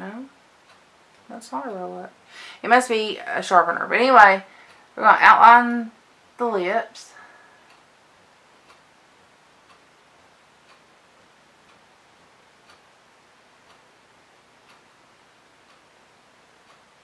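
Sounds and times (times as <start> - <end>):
faint ticking: 0.0 - 17.0.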